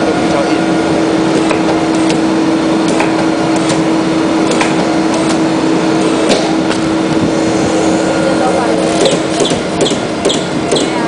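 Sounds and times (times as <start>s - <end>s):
briquette press machine hum: 0.0s - 11.0s.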